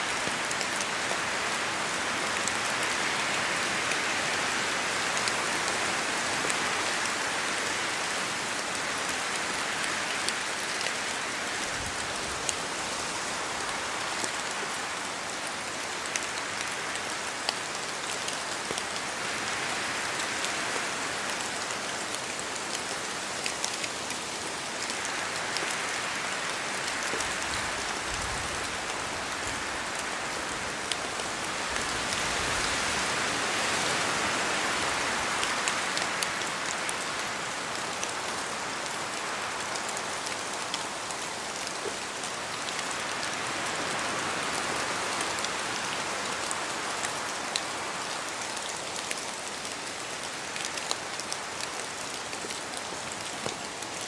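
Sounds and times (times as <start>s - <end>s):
rain in trees: 0.0s - 54.0s.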